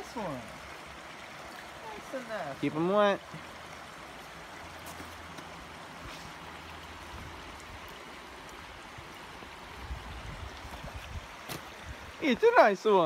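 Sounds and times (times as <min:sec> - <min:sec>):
water rushing over stones: 0:00.0 - 0:13.0.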